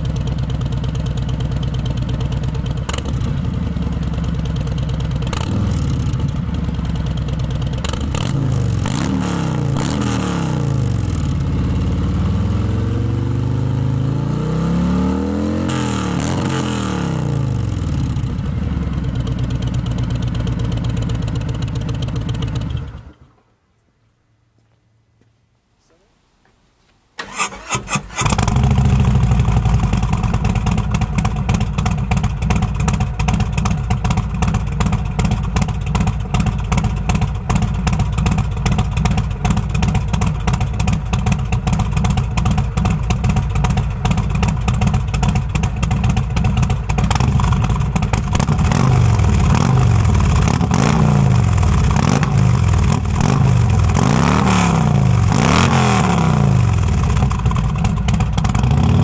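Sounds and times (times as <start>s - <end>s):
motorcycle engine idling and revving: 0.0s - 23.3s, 27.2s - 59.0s.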